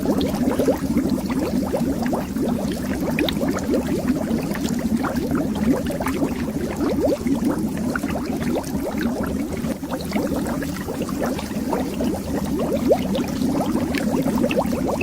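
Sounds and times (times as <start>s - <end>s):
underwater bubbling: 0.0s - 15.0s.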